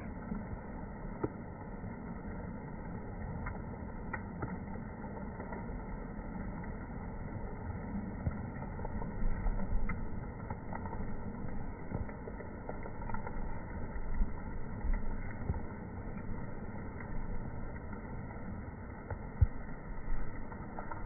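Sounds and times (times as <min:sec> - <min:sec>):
faint ticks: 0:00.0 - 0:21.0
muffled low outdoor rumble: 0:00.0 - 0:21.0.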